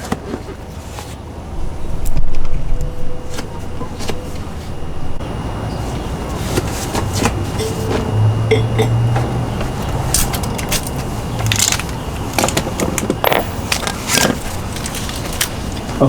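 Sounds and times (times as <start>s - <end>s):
steady low hum: 1.3s - 16.0s.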